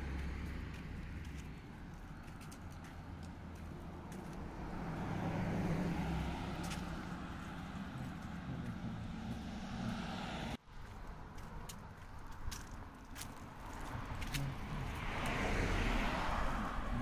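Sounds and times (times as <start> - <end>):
car passing by: 0.0 - 10.6, 13.6 - 17.0.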